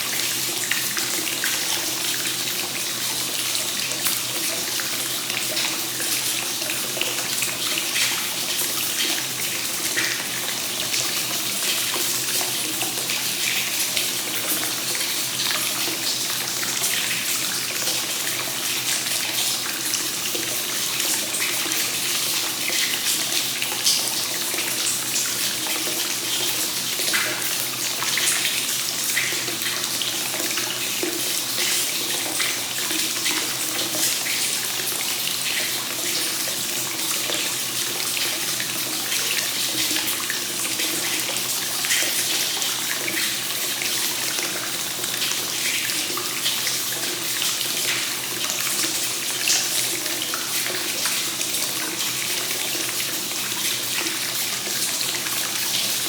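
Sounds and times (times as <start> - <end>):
water flowing from spout into bath: 0.0 - 56.0.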